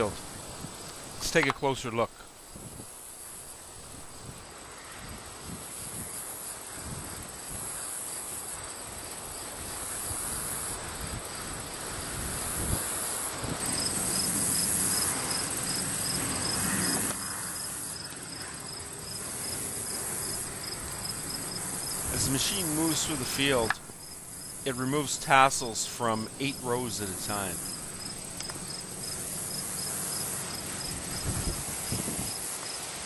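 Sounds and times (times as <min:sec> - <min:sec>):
crickets chirping: 0:00.0 - 0:33.0
rhythmic insect chirp: 0:02.2 - 0:33.0.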